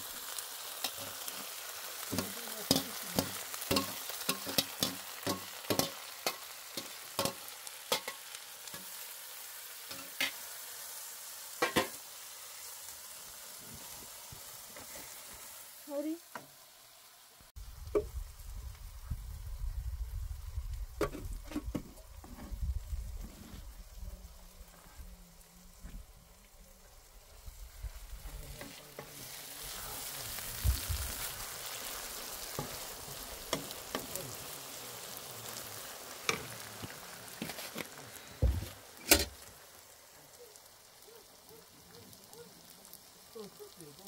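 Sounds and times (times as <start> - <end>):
food sizzling in a pan: 0.0 - 44.0.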